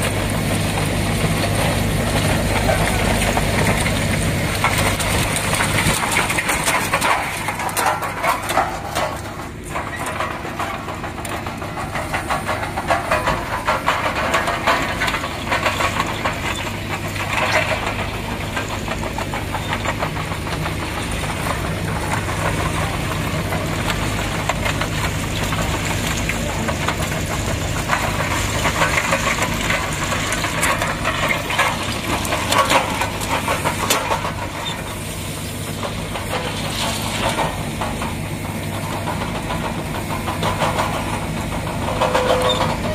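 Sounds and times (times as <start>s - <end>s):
diesel engine under load: 0.0s - 42.9s.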